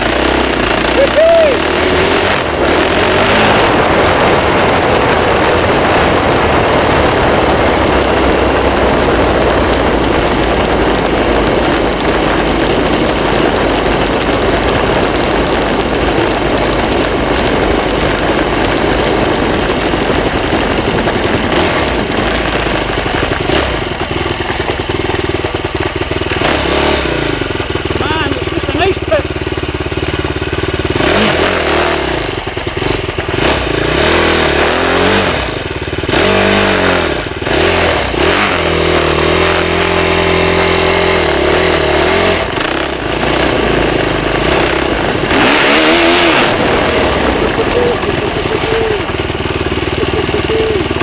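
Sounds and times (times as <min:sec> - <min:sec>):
off-road motorbike engine running: 0:00.0 - 0:51.0.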